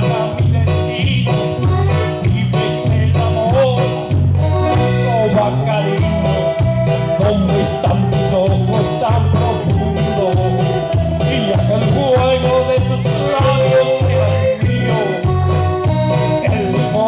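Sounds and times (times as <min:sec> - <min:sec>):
drums keeping a steady beat: 0:00.0 - 0:17.0
electric bass: 0:00.0 - 0:17.0
keyboard: 0:00.0 - 0:17.0
man singing into a microphone: 0:00.0 - 0:17.0.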